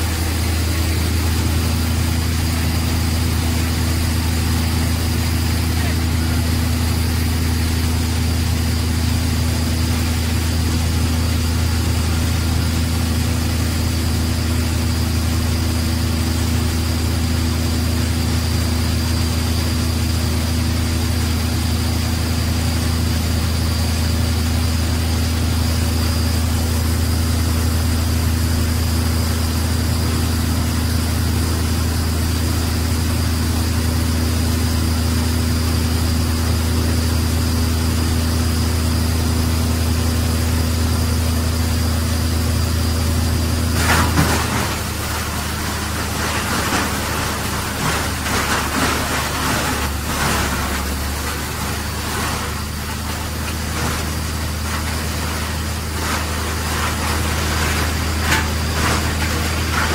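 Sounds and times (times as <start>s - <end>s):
machine engines droning: 0.0s - 59.9s.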